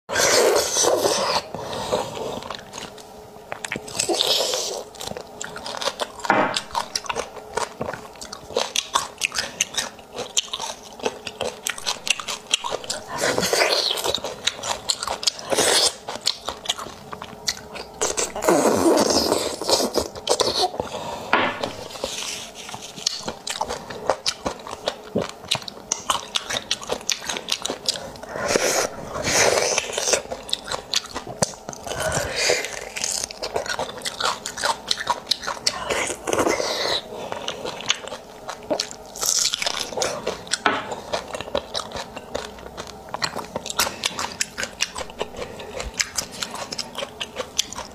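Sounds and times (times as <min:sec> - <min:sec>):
mouth clicks and chewing: 0:02.4 - 0:20.9, 0:21.6 - 0:47.9.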